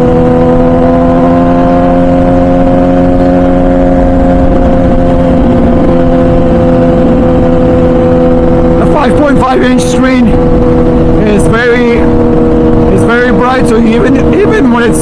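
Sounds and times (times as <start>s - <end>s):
motorcycle engine cruising: 0.0s - 15.0s
wind noise: 0.0s - 15.0s.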